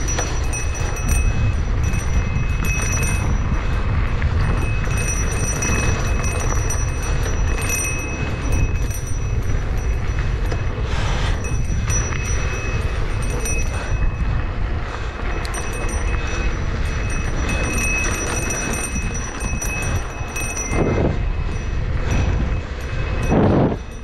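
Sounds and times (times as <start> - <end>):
tyres rolling on dirt: 0.0 - 23.2
mountain bike rattling: 0.0 - 24.0
wind rumble on microphone: 0.0 - 24.0.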